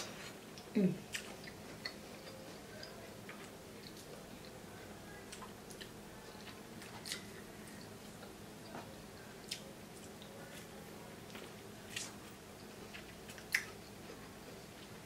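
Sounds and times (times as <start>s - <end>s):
mouth smacking and chewing: 0.5s - 4.6s, 5.2s - 15.0s.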